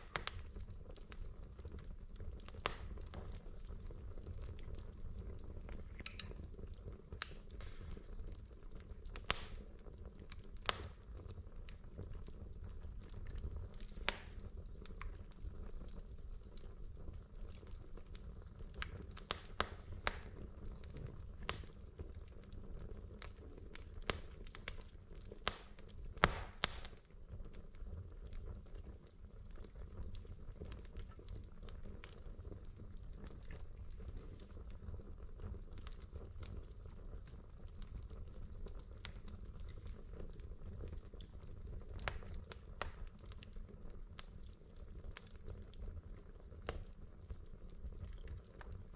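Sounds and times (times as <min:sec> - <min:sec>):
crackles and pops of logs: 0:00.0 - 0:48.9
low rumble of flames: 0:00.0 - 0:48.9.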